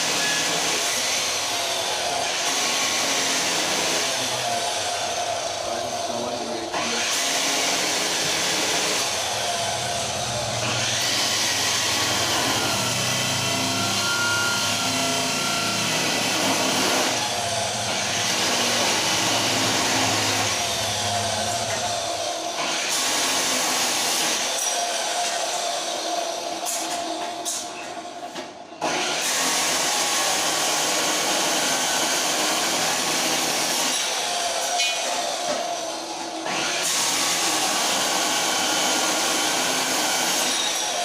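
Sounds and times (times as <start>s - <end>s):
power tool grinding metal: 0.0s - 28.2s, 28.8s - 41.0s.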